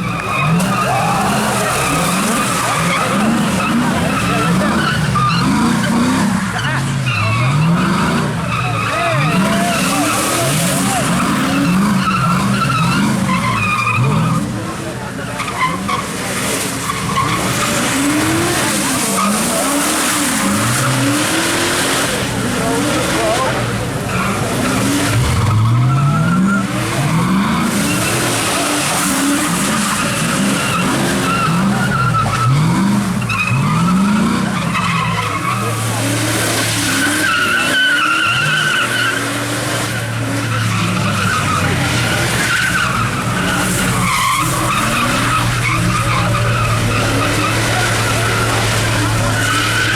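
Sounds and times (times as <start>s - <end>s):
car engine revving: 0.0s - 49.9s
tyres squealing: 0.0s - 49.9s.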